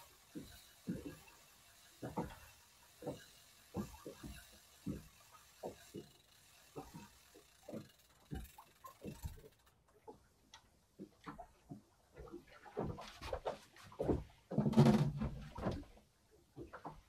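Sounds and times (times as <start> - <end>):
faint ticks and knocks: 0.0 - 17.0.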